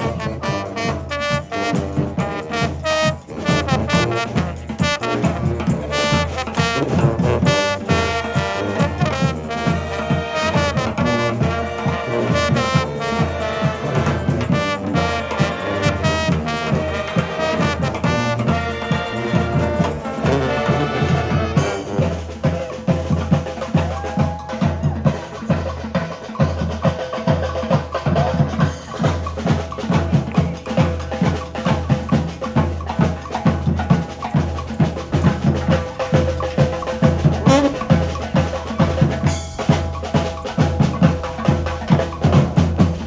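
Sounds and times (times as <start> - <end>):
brass band horns: 0.0 - 43.0
steady drum beat: 0.0 - 43.0.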